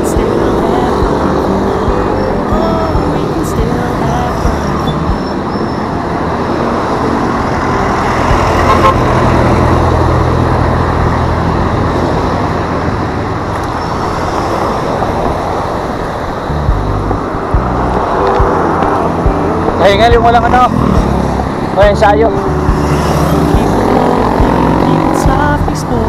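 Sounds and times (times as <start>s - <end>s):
road traffic rush: 0.0s - 26.0s
vehicle engine hum passing: 0.0s - 26.0s.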